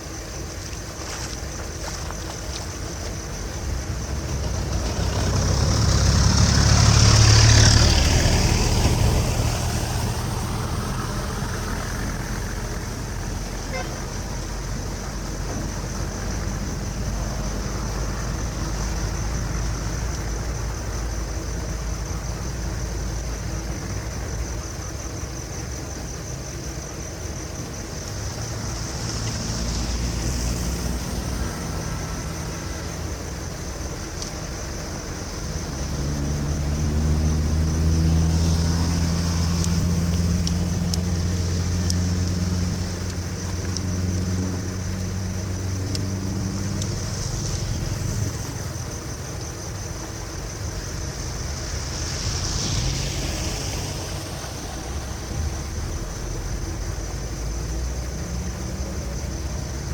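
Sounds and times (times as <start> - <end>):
low rumble of traffic: 0.0 - 59.9
vehicle engine passing: 3.3 - 23.3, 27.7 - 59.9.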